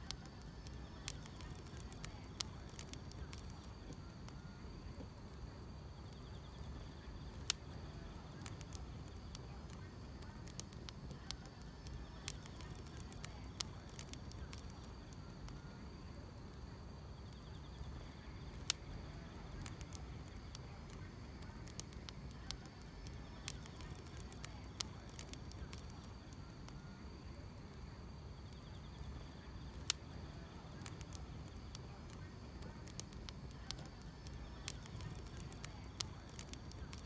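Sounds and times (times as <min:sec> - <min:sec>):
grass insects trilling: 0:00.0 - 0:04.7, 0:05.9 - 0:16.0, 0:17.1 - 0:27.2, 0:28.3 - 0:37.0
wood fire crackling: 0:00.0 - 0:37.0.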